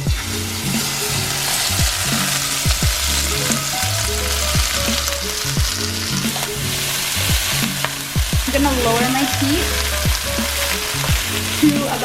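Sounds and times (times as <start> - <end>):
background music with steady beat: 0.0 - 12.0
vegetables sizzling in oil: 0.0 - 12.0.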